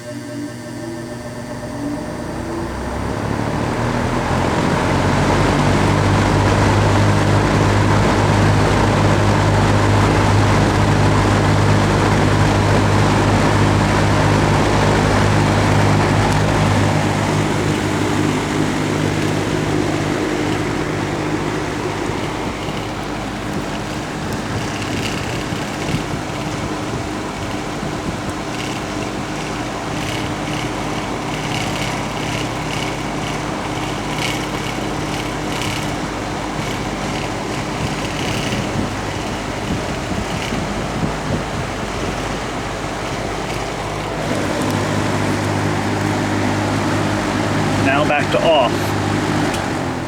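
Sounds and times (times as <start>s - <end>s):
box fan motor hum: 0.0s - 50.0s
rush of air from fan blades: 1.2s - 50.0s.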